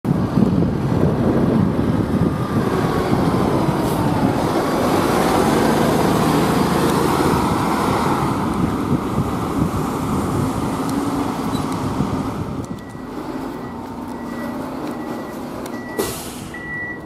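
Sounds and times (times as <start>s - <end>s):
fire engine diesel rumble: 0.1s - 17.0s.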